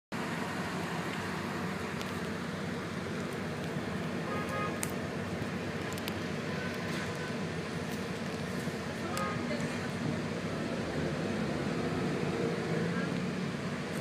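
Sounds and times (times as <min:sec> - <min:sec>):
traffic engine rumble: 0:00.1 - 0:14.0.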